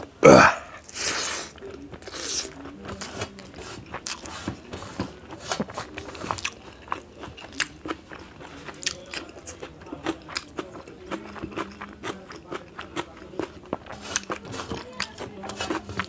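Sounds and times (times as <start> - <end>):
chewing rice: 0.0 - 16.0.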